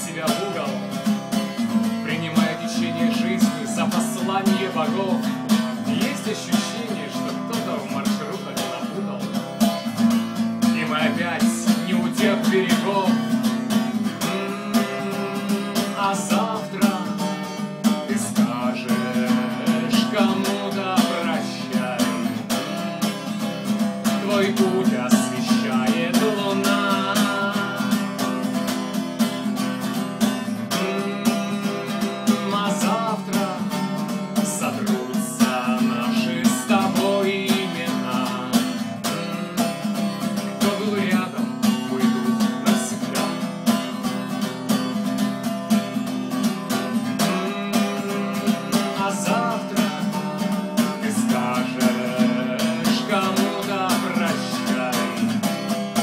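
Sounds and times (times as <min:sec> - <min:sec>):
man singing: 0:00.0 - 0:28.8, 0:29.6 - 0:44.9, 0:45.8 - 0:56.0
acoustic guitar strumming: 0:00.0 - 0:56.0.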